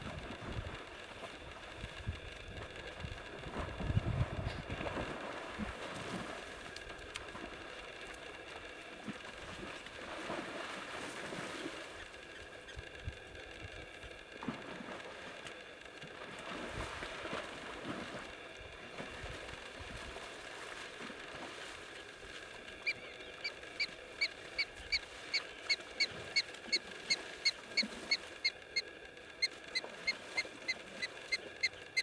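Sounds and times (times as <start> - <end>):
outdoor background: 0.0 - 32.0.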